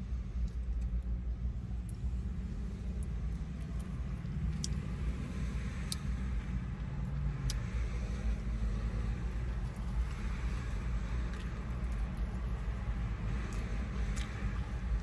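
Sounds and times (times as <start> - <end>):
low rumble inside car: 0.0 - 15.0
man chewing food: 0.0 - 15.0.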